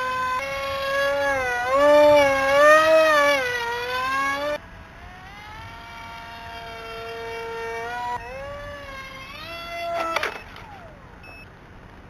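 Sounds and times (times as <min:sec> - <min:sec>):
model jet motor whining: 0:00.0 - 0:11.4.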